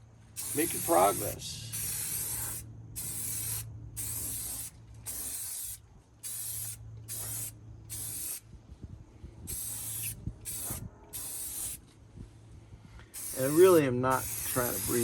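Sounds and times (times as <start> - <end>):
spray paint can hissing: 0.4 - 8.4, 9.5 - 11.8, 13.2 - 15.0.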